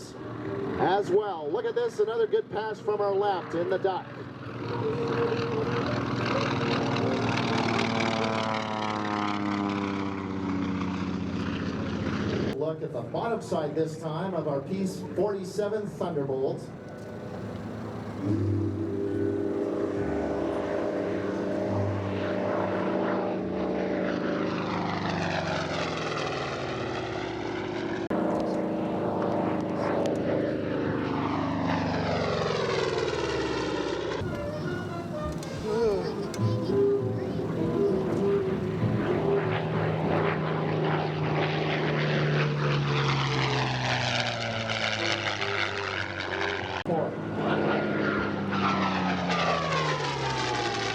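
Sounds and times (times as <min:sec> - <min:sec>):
propeller plane engine droning: 0:00.0 - 0:50.9.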